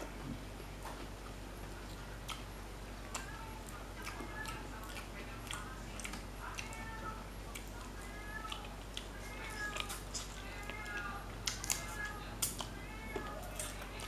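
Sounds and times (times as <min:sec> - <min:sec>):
crispy fried fish being chewed: 0:00.8 - 0:14.0.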